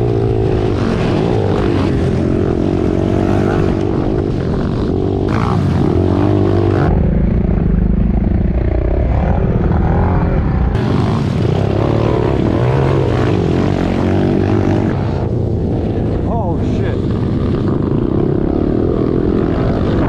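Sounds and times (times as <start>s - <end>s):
motorbike engines revving: 0.0s - 20.0s.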